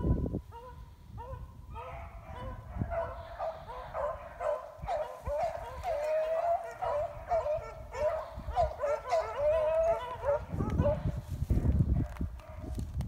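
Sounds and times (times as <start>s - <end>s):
dogs baying: 0.5s - 11.1s.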